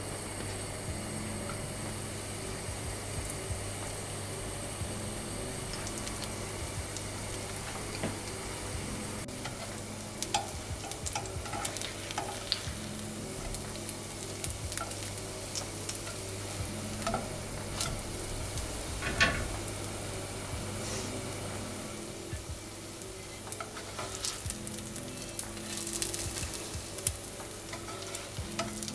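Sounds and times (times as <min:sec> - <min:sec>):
chicken frying in oil: 0:00.0 - 0:28.9.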